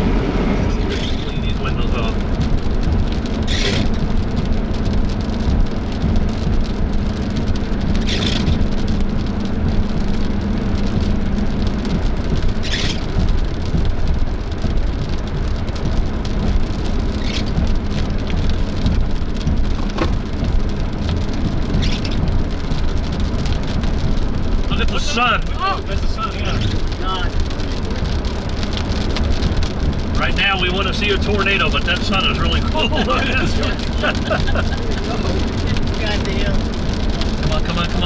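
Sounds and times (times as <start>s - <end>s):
rain on a vehicle: 0.0s - 38.0s
road and engine noise: 0.0s - 38.0s
windshield wipers sweeping: 0.0s - 38.0s.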